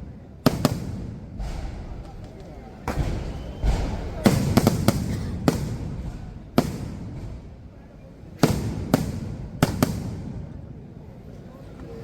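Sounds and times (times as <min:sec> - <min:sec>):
fireworks bangs with echo: 0:00.0 - 0:10.8.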